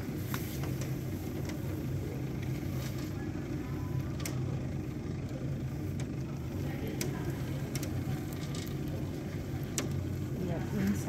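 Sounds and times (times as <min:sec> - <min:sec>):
lift motor humming: 0:00.0 - 0:11.0.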